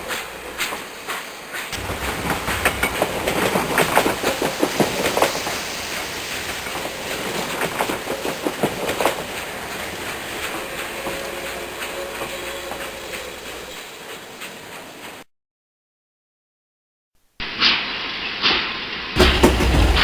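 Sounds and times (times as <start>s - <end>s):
low train rumble: 0.0s - 15.2s, 17.4s - 20.0s
train wheels clattering over rail joints: 0.0s - 15.2s, 17.6s - 20.0s.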